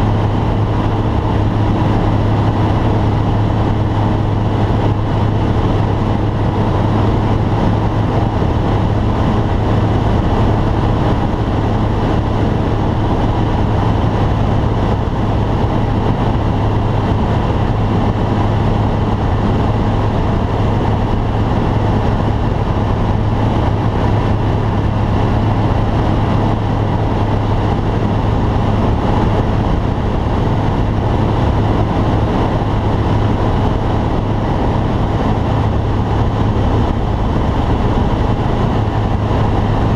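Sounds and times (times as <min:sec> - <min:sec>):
aircraft engine drone: 0:00.0 - 0:39.9
rushing airflow: 0:00.0 - 0:39.9.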